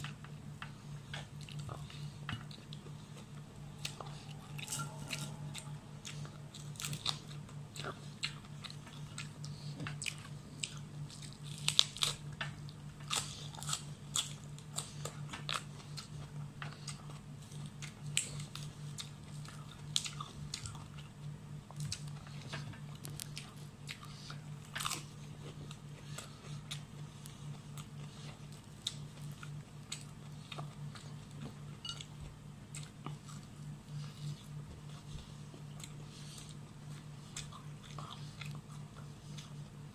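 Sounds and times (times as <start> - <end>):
person chewing crunchy food: 0.0 - 39.9
steady low hum: 0.0 - 39.9.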